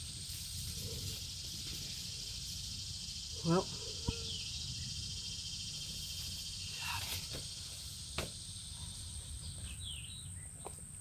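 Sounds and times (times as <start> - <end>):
insects chorus: 0.0 - 11.0
thin constant whine: 0.0 - 11.0.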